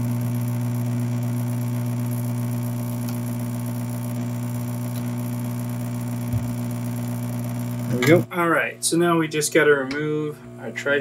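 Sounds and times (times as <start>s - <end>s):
hot air station fan whirring: 0.0s - 11.0s.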